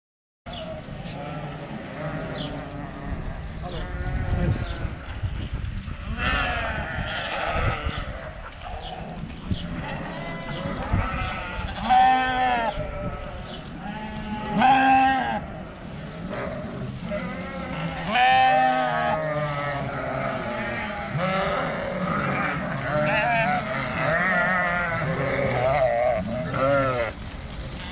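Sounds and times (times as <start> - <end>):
sheep bleating: 0.5 - 5.0, 6.1 - 27.2.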